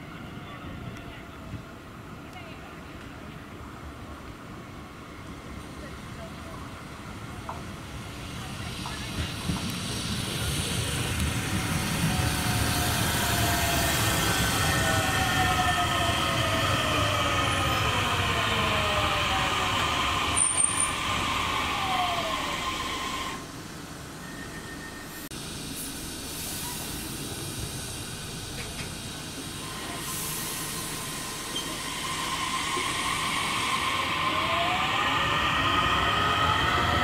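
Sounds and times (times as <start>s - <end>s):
train wheels rumbling on rails: 5.2s - 24.0s, 25.6s - 37.0s.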